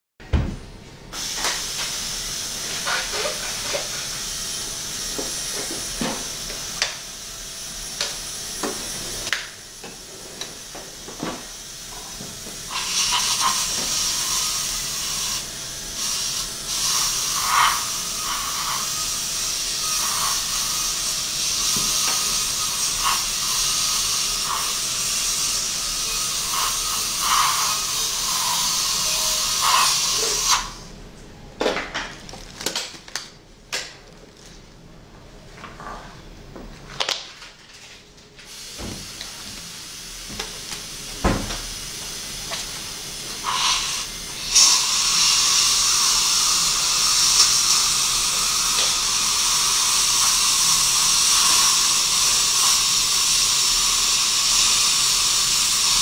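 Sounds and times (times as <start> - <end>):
dental handpiece hissing: 1.2 - 30.9, 38.5 - 56.0.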